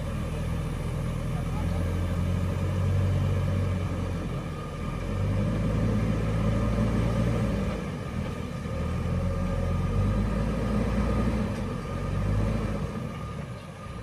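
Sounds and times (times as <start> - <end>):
diesel engines running under load: 0.0 - 14.0.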